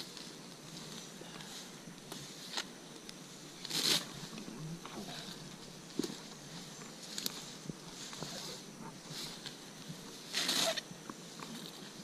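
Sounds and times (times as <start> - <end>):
grass rustling and swishing: 0.0 - 12.0.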